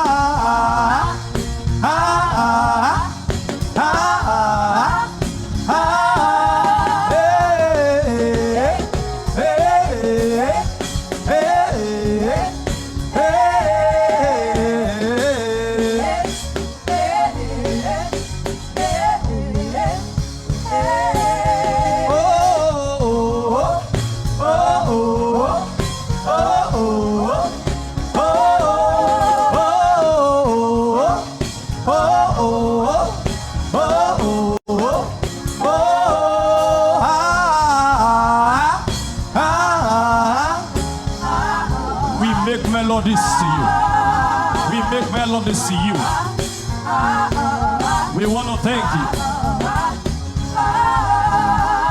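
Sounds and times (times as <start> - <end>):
instrumental backing music: 0.0 - 51.9
wordless singing with vibrato: 0.0 - 51.9.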